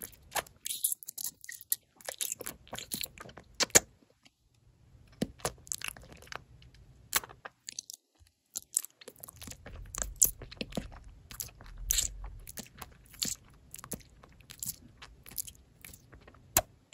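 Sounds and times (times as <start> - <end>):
biting and chewing gummy jelly: 0.0 - 4.0, 5.1 - 16.9.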